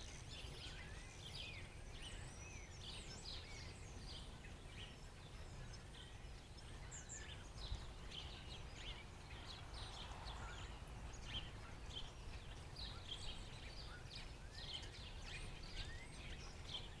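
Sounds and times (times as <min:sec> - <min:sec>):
blackbirds chirping: 0:00.0 - 0:17.0.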